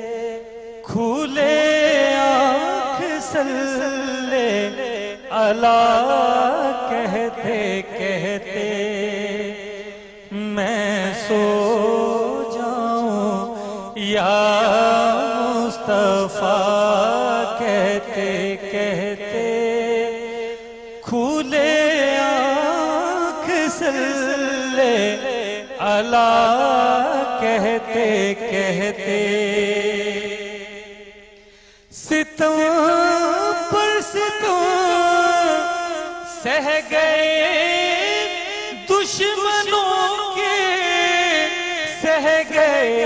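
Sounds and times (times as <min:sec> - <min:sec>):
man singing into a microphone: 0:00.0 - 0:43.0.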